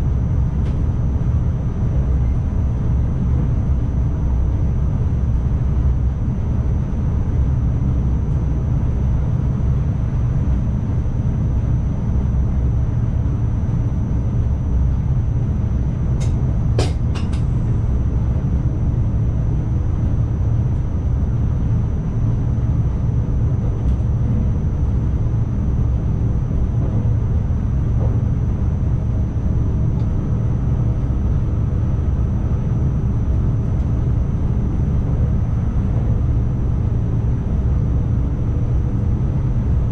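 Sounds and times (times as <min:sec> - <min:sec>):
train motors and wheels rumbling: 0:00.0 - 0:39.9.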